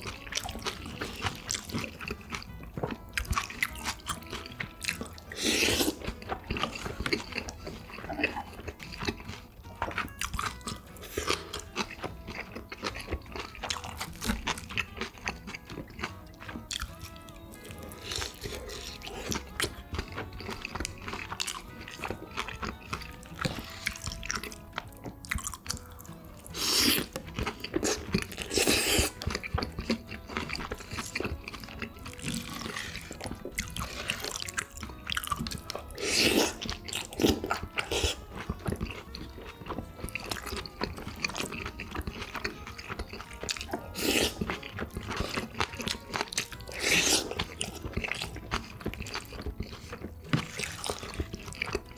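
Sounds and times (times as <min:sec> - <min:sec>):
chewing with wet clicks: 0:00.0 - 0:51.9
crunching bites: 0:00.0 - 0:51.9.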